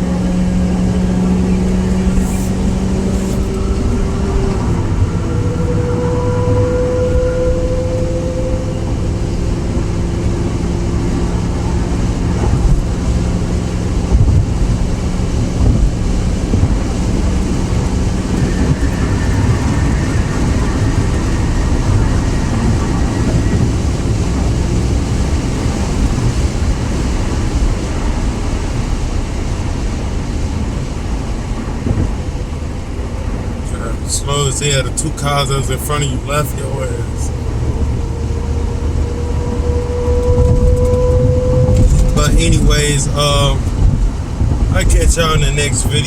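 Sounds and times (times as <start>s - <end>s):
car engine rumbling while driving: 0.0s - 46.0s
road noise: 0.0s - 46.0s.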